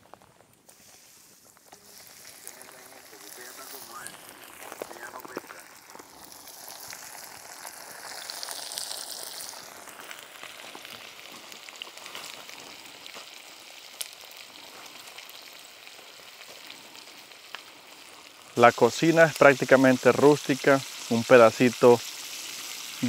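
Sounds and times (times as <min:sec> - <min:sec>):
fish sizzling in hot oil: 0:00.6 - 0:23.0.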